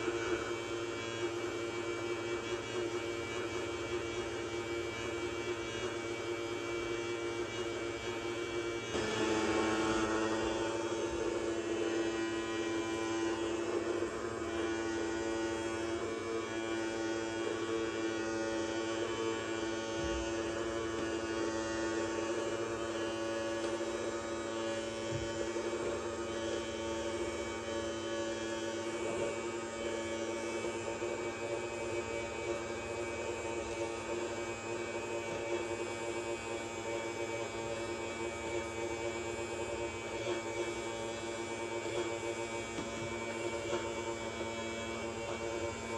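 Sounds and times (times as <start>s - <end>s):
small electric motor humming: 0.0s - 45.9s.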